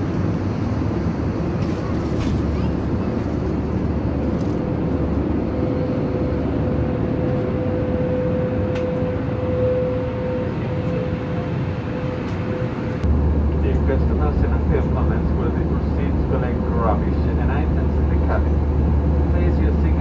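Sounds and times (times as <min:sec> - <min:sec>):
airflow and engine rush: 0:00.0 - 0:20.0
steady humming tone: 0:00.0 - 0:20.0.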